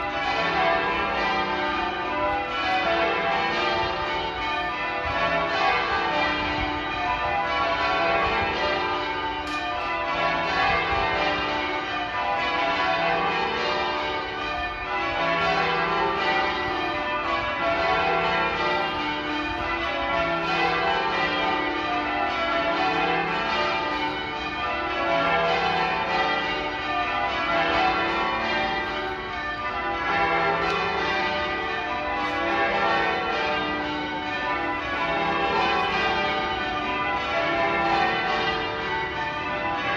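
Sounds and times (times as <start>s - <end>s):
church bells change-ringing: 0.0s - 39.9s.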